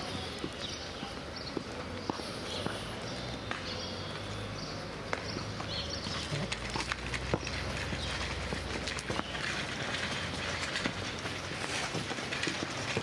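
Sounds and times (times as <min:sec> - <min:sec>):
footsteps on pavement: 0:00.0 - 0:13.0
traffic rumble: 0:00.0 - 0:13.0.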